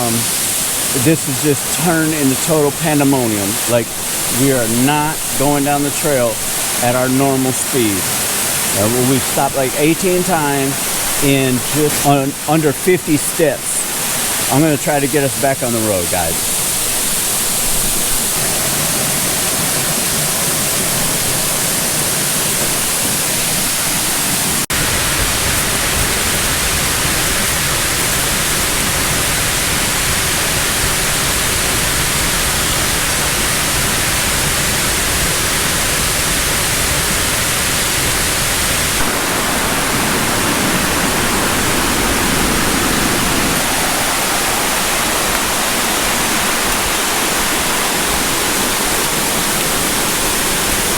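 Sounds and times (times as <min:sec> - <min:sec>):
waterfall and creek water rushing: 0:00.0 - 0:50.9.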